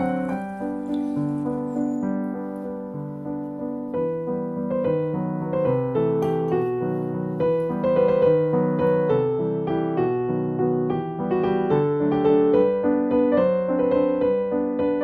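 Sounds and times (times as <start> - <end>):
light piano tune: 0.0 - 15.0.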